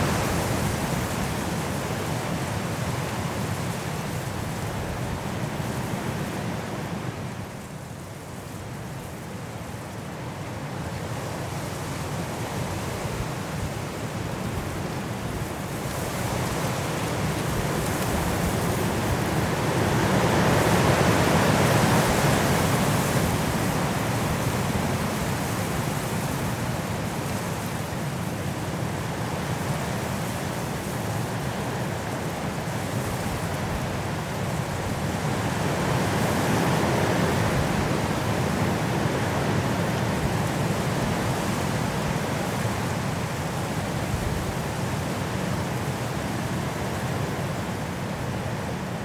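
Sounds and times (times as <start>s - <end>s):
strong wind blowing through trees: 0.0s - 49.0s.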